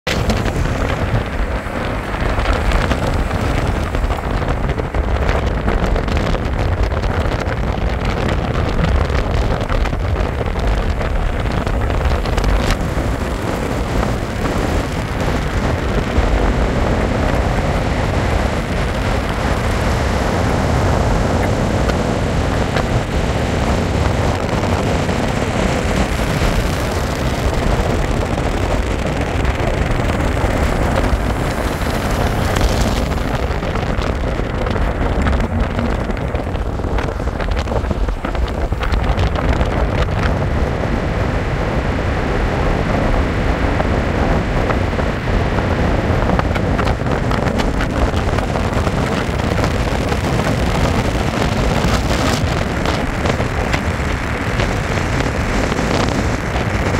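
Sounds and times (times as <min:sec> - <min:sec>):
car road noise at speed: 0:00.0 - 0:56.9
wind buffeting microphone: 0:00.0 - 0:56.9.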